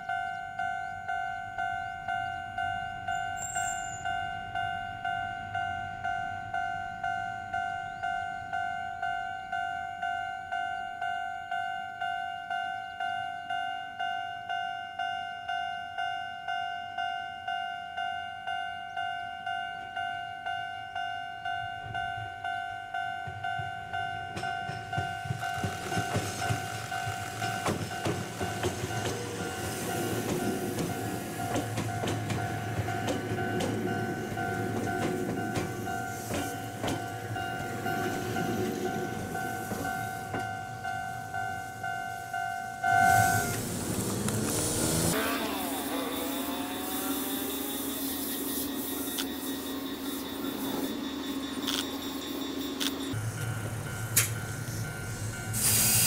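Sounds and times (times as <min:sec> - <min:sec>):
electric train passing: 0:00.0 - 0:56.0.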